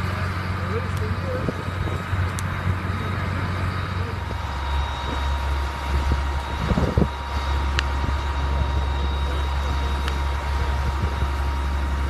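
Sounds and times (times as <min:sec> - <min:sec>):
faint steady whine: 0:00.0 - 0:12.0
fire truck engine rumbling: 0:00.0 - 0:12.0.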